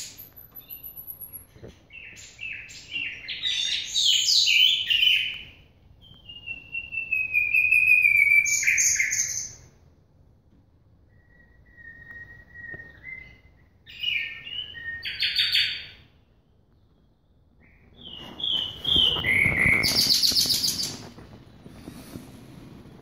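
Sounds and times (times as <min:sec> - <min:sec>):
bird singing whistled notes: 0:00.0 - 0:09.7, 0:11.0 - 0:21.6.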